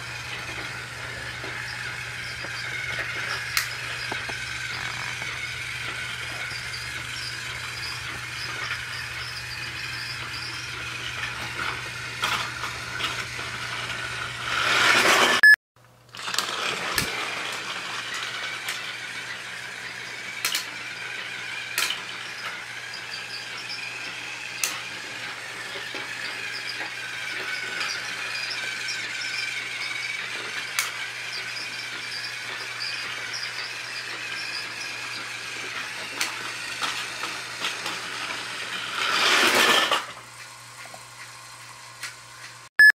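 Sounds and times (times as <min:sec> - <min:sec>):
toy train running on track: 0:00.0 - 0:15.4, 0:16.1 - 0:42.7.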